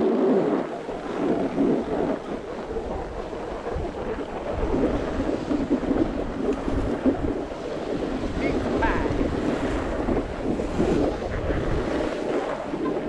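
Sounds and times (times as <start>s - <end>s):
skis scraping over snow: 0.0s - 13.0s
wind buffeting microphone: 0.0s - 13.0s.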